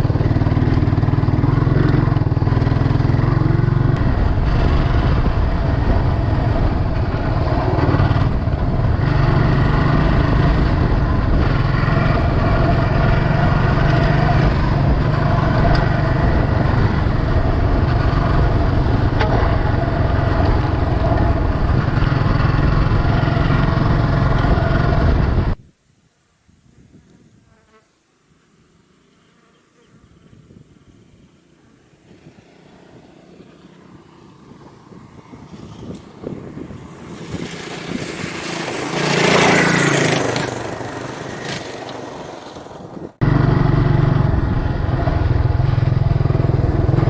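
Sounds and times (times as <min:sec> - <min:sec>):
motorcycle engine buzzing: 0:00.0 - 0:25.6, 0:29.5 - 0:47.0
wind and road noise: 0:00.0 - 0:47.0.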